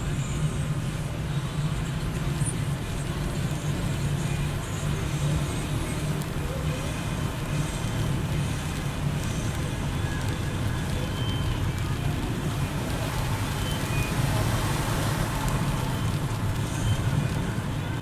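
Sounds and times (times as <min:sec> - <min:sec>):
car engine and tyre drone: 0:00.0 - 0:18.0.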